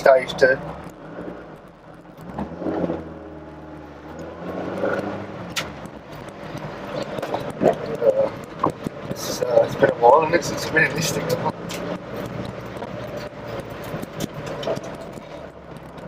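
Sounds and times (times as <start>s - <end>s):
car engine running inside cabin: 0.0s - 16.0s.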